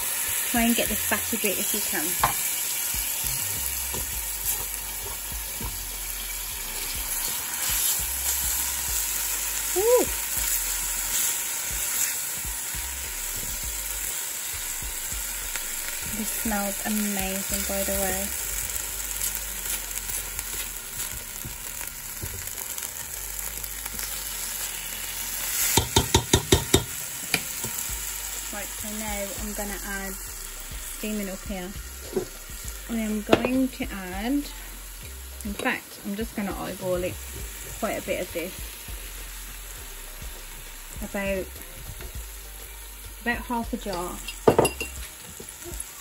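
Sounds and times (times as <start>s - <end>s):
food sizzling in a pan: 0.0s - 46.0s.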